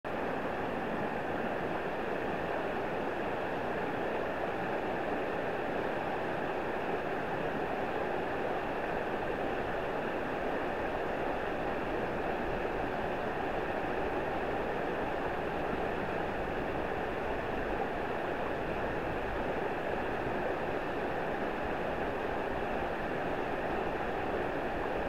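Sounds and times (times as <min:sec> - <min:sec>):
river rushing over rocks: 0:00.1 - 0:25.0.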